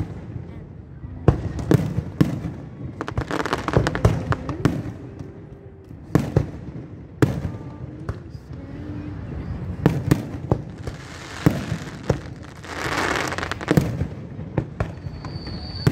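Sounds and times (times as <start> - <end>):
fireworks bangs: 0.0 - 15.9
fireworks crackling pops: 1.3 - 8.6, 9.8 - 15.9.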